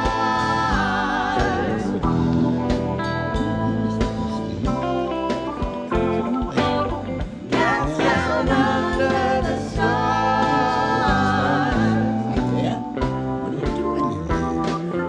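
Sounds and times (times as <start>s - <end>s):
drums: 0.0s - 15.0s
guitar: 0.0s - 15.0s
soul song with singer: 0.0s - 15.0s.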